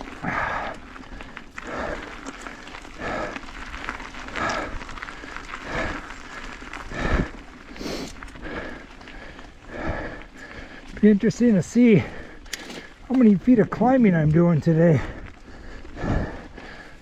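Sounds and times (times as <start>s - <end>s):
heavy rhythmic breathing: 0.0s - 13.3s, 14.2s - 17.0s.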